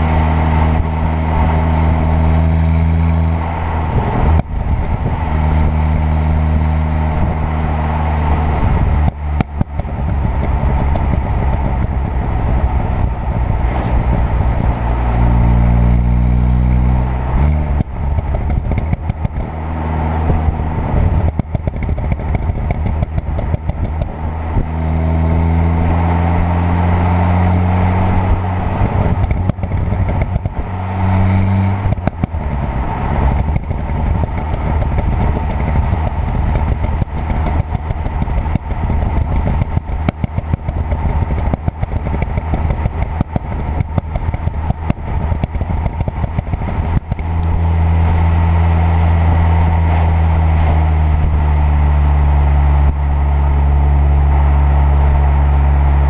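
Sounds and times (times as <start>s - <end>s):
car engine accelerating: 0.0s - 56.0s
exhaust popping and crackling: 0.0s - 56.0s.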